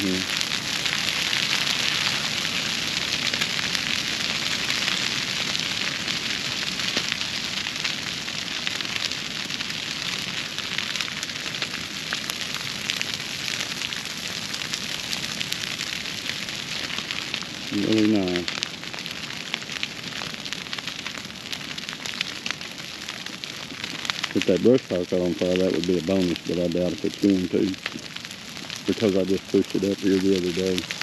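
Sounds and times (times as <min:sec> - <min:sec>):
fire popping: 0:00.0 - 0:31.0
grass fire crackling: 0:00.0 - 0:31.0.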